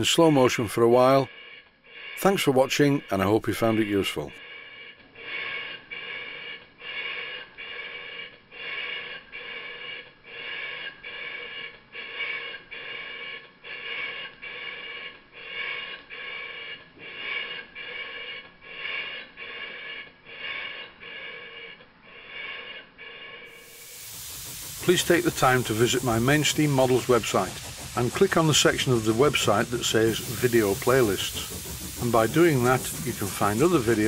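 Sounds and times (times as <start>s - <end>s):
model steam engine chuffing: 0.0s - 34.0s.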